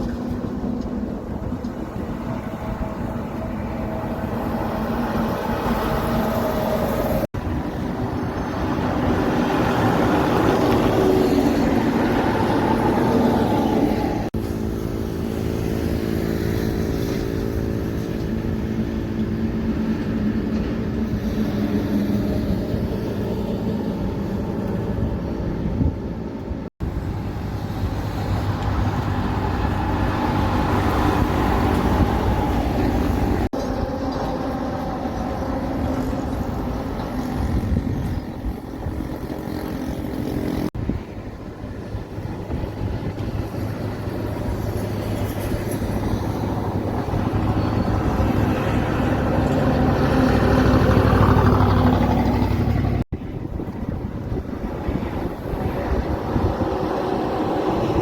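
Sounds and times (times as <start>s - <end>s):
truck engines driving past: 0.0s - 58.0s.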